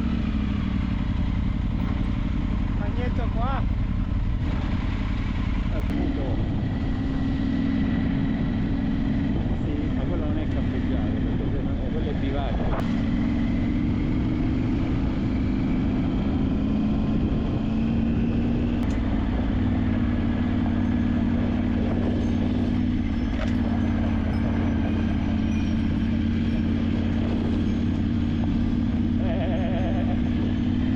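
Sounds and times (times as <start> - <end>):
off-road vehicle engine running: 0.0 - 30.9
ride noise: 0.0 - 30.9.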